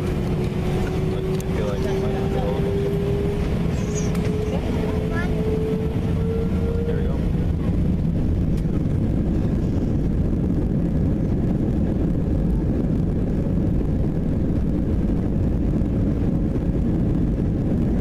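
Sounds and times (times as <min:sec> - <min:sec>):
jet engines low rumble: 0:00.0 - 0:18.0.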